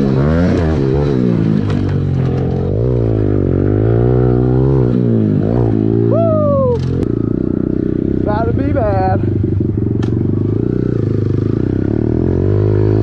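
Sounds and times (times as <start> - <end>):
dirt bike engine running hard: 0.0 - 13.0.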